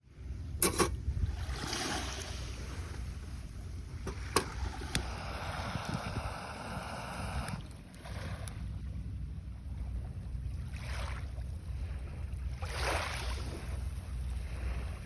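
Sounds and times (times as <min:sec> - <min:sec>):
water lapping around a kayak: 0:00.1 - 0:15.0
wind rumbling on microphone: 0:00.2 - 0:15.0.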